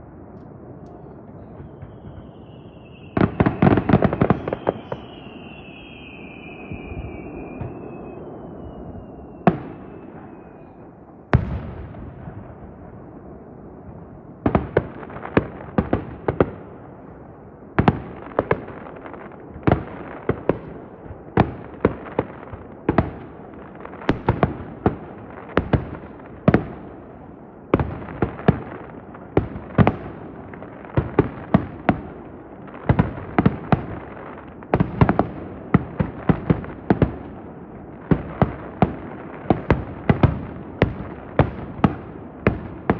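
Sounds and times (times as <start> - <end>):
fireworks bursting with echo: 0.0 - 42.9.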